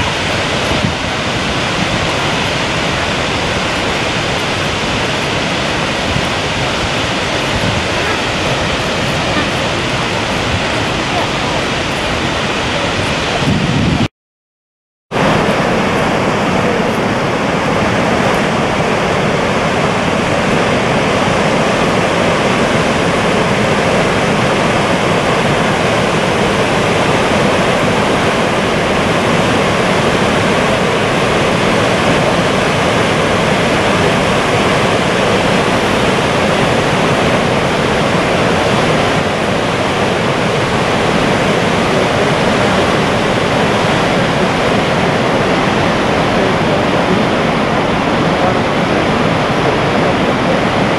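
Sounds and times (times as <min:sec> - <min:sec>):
waterfall rushing: 0:00.0 - 0:14.1, 0:15.1 - 0:50.9.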